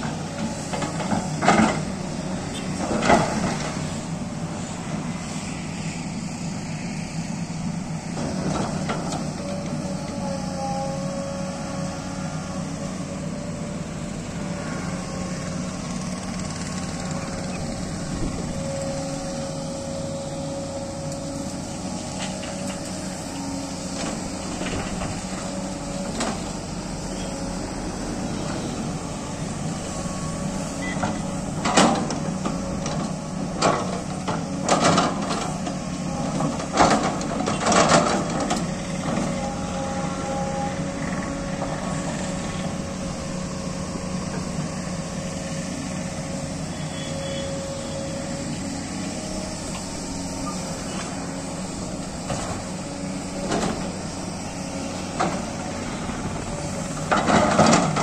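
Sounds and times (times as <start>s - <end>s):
diesel engine running: 0.0s - 58.0s
hydraulic whine: 0.0s - 58.0s.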